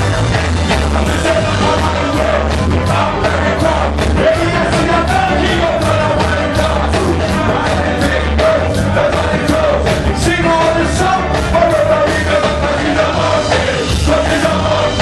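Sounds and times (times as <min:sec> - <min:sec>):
live ska band: 0:00.0 - 0:15.0
man singing into microphone: 0:00.0 - 0:15.0.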